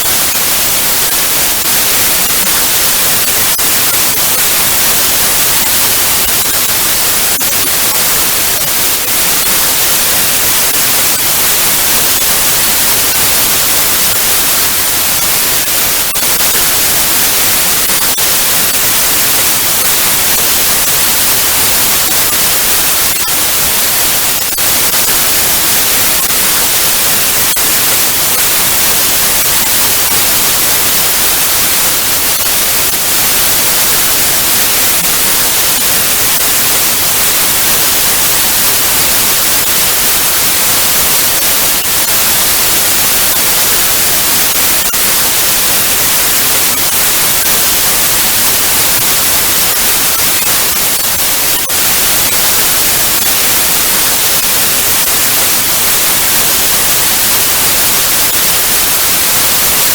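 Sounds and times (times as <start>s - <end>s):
television static hiss: 0.0s - 59.9s.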